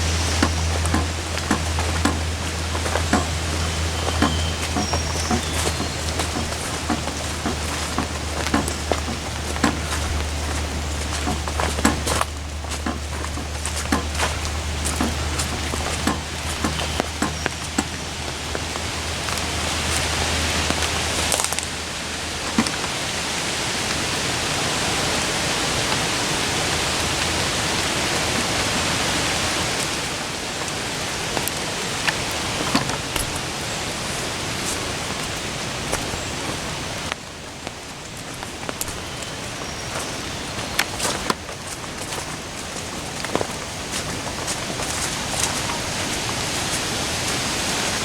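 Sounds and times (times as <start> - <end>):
rain falling steadily: 0.0 - 48.0
raindrops tapping close by: 0.0 - 48.0.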